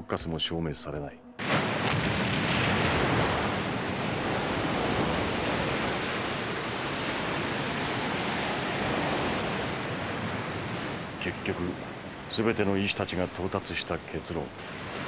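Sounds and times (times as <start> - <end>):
heavy surf of rough sea: 1.4 - 15.0
storm wind: 1.4 - 15.0.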